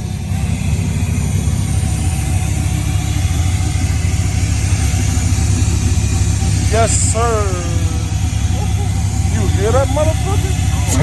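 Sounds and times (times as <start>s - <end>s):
truck engine idling choppily: 0.0s - 11.0s.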